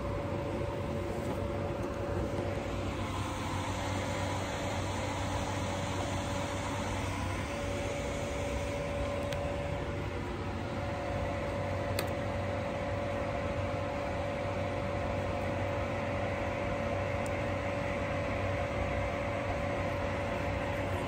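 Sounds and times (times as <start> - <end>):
machine humming and whining: 0.0 - 21.0.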